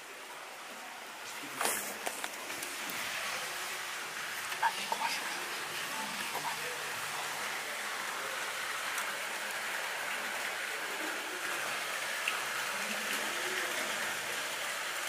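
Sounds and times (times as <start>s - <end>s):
water rushing in a tunnel: 0.0s - 15.0s
faint distant voice: 0.6s - 8.9s, 10.0s - 14.7s.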